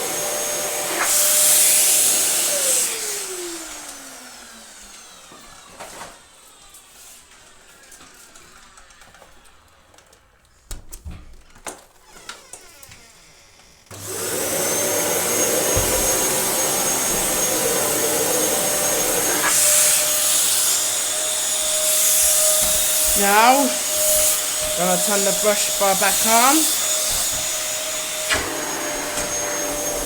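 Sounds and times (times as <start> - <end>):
vacuum cleaner motor whooshing: 0.0 - 9.8, 12.1 - 30.0.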